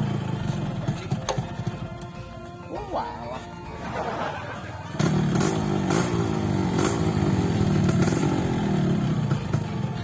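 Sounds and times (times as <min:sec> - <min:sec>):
engine running: 0:00.0 - 0:02.6, 0:03.5 - 0:10.0.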